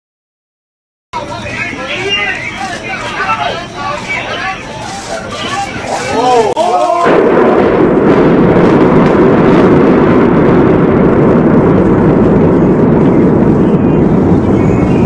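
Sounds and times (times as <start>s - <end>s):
towers collapsing rumble: 1.2s - 15.0s.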